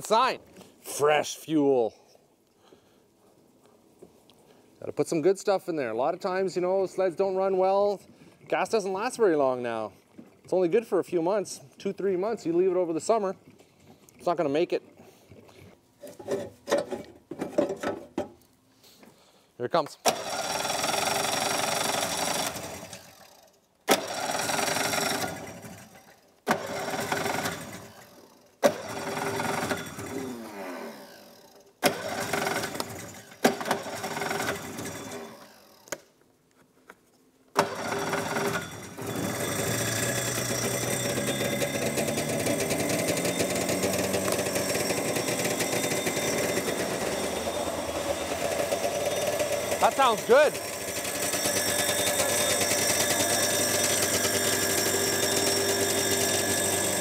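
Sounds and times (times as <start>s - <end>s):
snowmobile engine cranking and starting: 5.8s - 17.0s, 20.0s - 36.2s, 37.5s - 57.0s.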